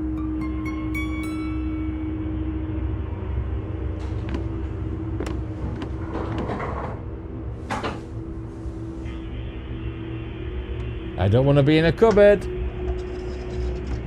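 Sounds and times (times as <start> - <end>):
low steady rumble with hum: 0.0 - 13.6.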